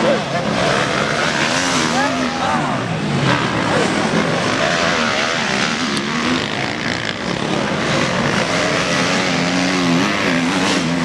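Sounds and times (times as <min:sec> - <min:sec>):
motocross bike engines racing: 0:00.0 - 0:11.0
motorbike revving: 0:00.0 - 0:11.0.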